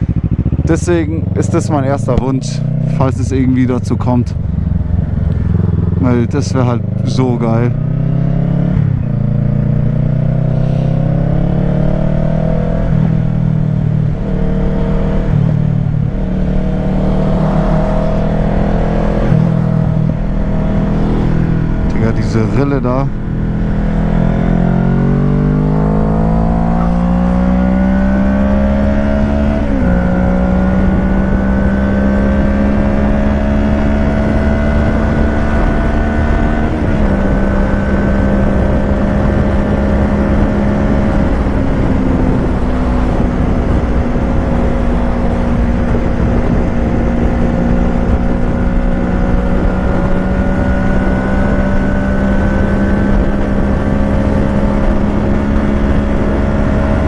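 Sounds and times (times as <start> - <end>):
motorcycle engine accelerating: 0.0 - 57.0
wind noise: 7.8 - 57.0.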